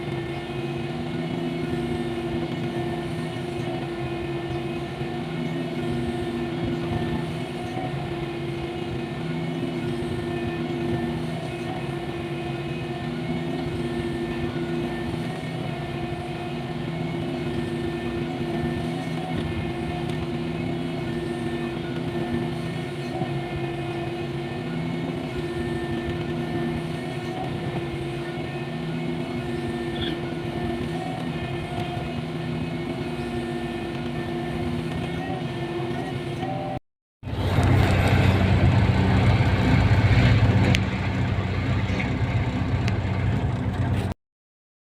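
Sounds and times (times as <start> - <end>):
excavator diesel engine droning: 0.0 - 44.2.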